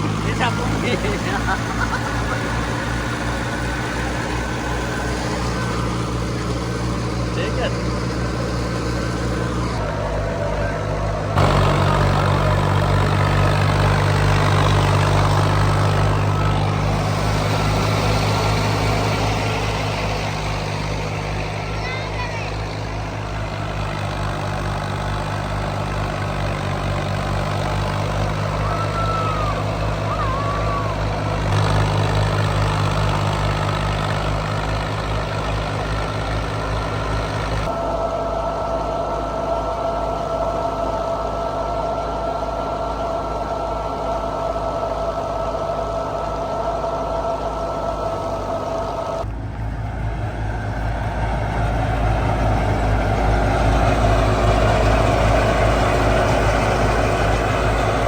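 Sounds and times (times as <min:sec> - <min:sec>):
diesel farm machinery engine running: 0:00.0 - 0:58.0.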